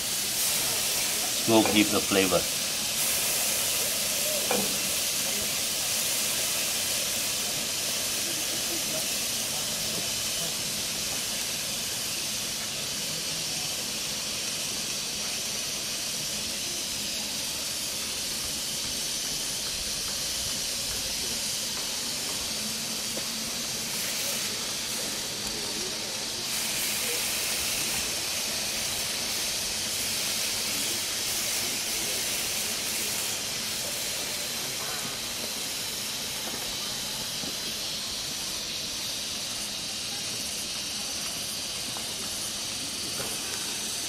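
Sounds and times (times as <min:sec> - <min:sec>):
skewers sizzling on charcoal grill: 0:00.0 - 0:44.0.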